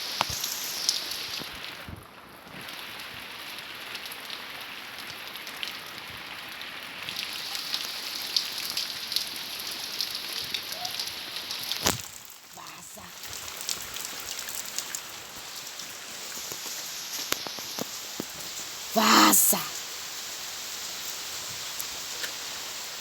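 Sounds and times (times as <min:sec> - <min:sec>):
raindrops ticking on hard surface: 0:00.0 - 0:19.0, 0:19.7 - 0:23.0
heavy rain falling: 0:00.0 - 0:23.0.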